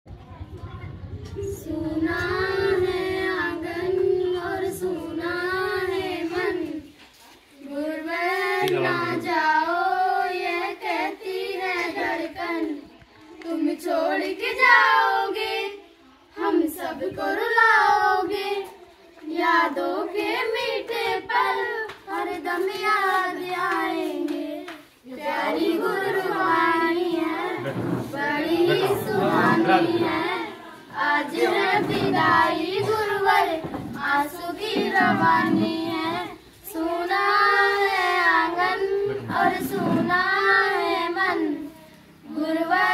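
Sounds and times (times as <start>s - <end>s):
children singing: 0.4s - 7.0s, 7.6s - 42.9s.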